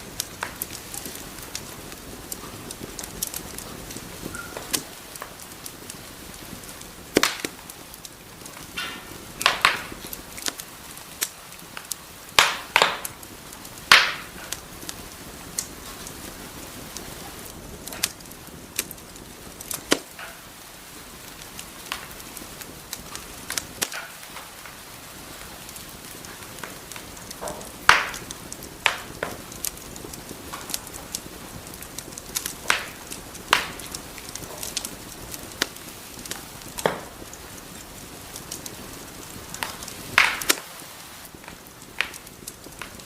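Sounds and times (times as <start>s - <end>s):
fire hissing: 0.0s - 43.0s
fire popping and snapping: 0.0s - 43.0s.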